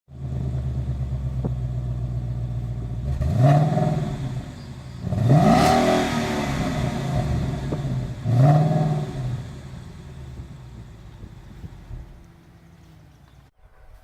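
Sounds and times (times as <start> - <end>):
engine revving: 0.1 - 13.3
car exhaust idling: 0.1 - 13.5.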